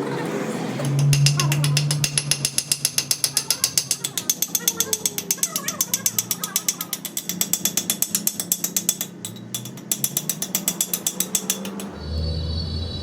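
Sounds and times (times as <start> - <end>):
ratchet wrench clicking: 0.9 - 12.0.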